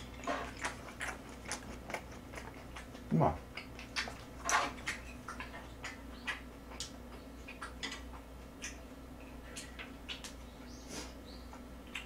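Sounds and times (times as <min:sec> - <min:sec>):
steady low hum: 0:00.0 - 0:12.0
wet chewing mouth clicks: 0:00.0 - 0:12.0.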